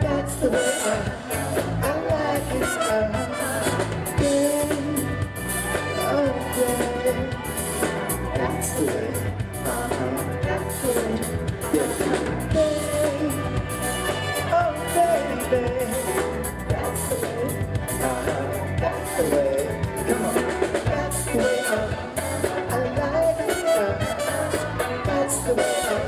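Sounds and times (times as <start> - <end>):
live band playing disco-funk: 0.0 - 26.0
person singing: 0.0 - 26.0.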